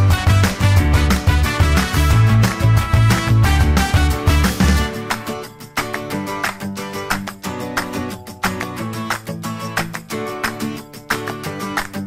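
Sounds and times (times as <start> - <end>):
music with strummed strokes: 0.0 - 12.0.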